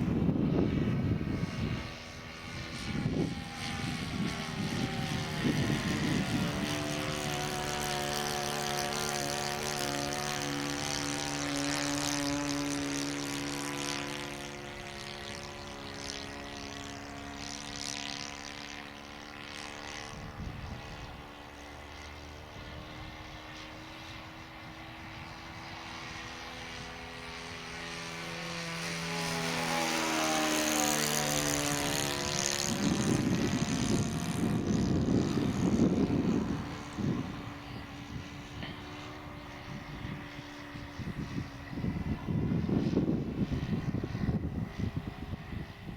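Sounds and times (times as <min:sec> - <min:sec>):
model plane engine droning: 0:00.0 - 0:45.9.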